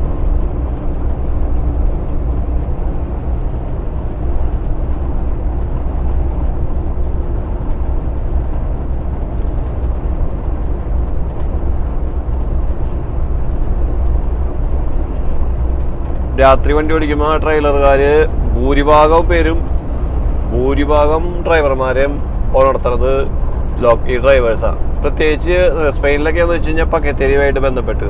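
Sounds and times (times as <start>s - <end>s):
diesel engine rumble: 0.0s - 28.0s
road noise: 0.0s - 28.0s.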